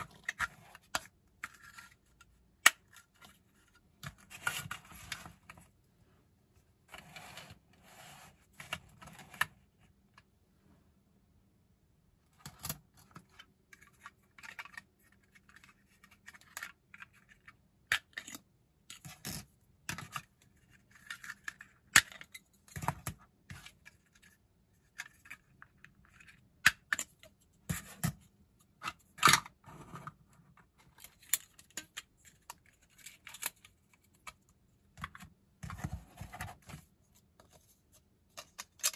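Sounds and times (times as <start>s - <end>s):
plastic parts clicking and scraping: 0.0s - 5.7s, 12.4s - 38.9s.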